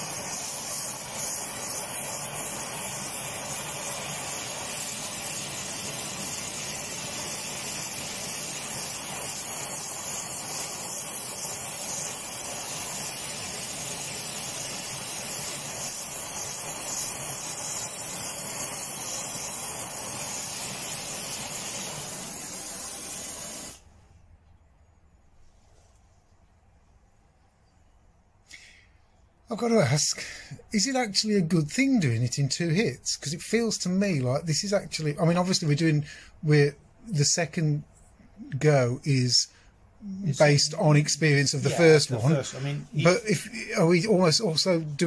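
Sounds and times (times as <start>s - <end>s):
gas torch flame hissing: 0.0s - 24.0s, 28.6s - 45.0s.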